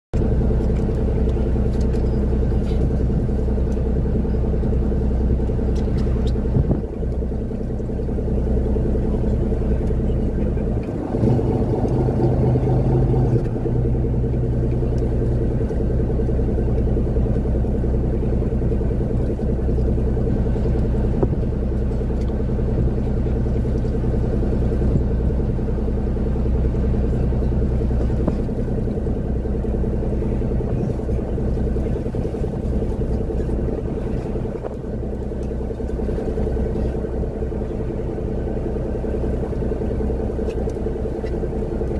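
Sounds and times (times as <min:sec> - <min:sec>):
engine running: 0:00.2 - 0:41.9.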